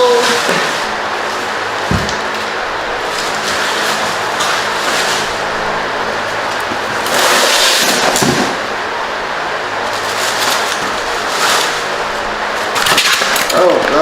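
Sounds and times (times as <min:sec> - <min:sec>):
packing material crackling: 0:00.0 - 0:08.8, 0:09.5 - 0:14.0.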